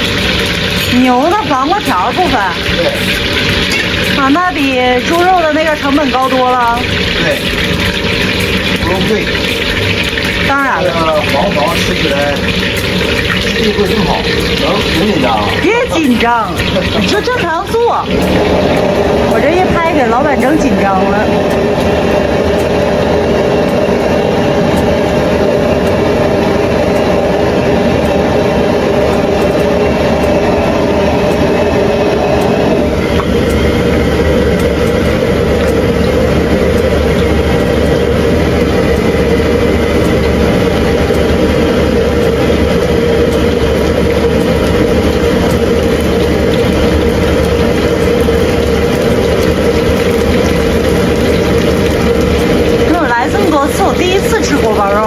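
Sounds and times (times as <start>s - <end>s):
beef deep-frying in oil: 0.0s - 55.0s
gas wok stove roaring: 0.0s - 55.0s.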